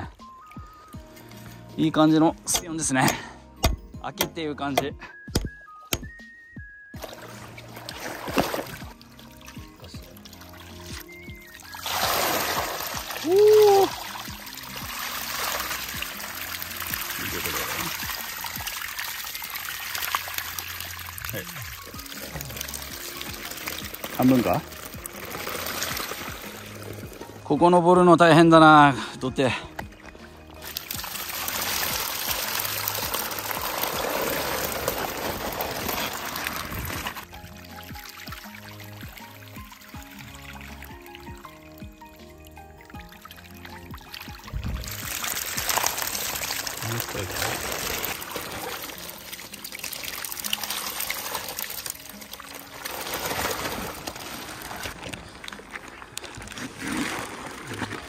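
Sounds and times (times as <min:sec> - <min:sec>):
water pouring and splashing: 0:00.0 - 0:03.8, 0:07.0 - 0:58.0.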